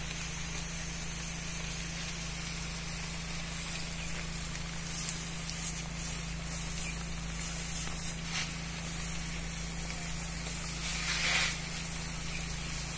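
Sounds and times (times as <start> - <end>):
pressurised liquid spray hissing: 0.0 - 12.9
steady low hum: 0.0 - 12.9.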